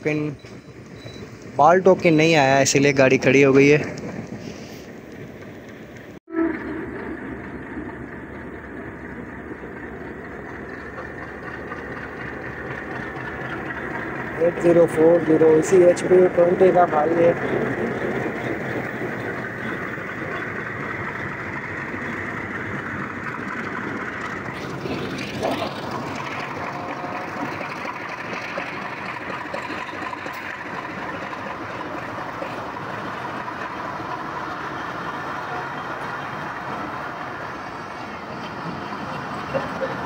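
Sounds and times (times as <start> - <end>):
diesel locomotive passing: 0.0 - 40.0
train wheel-and-rail noise: 0.0 - 40.0.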